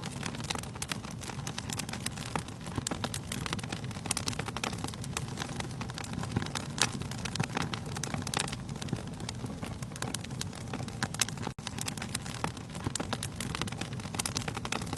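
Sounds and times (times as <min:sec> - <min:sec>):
low rushing rumble of flames: 0:00.0 - 0:14.9
wood fire crackling and popping: 0:00.0 - 0:14.9.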